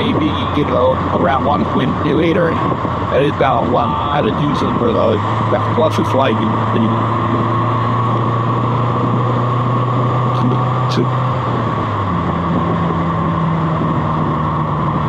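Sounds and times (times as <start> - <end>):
car engine pulling: 0.0 - 15.0
tyre and road noise: 0.0 - 15.0.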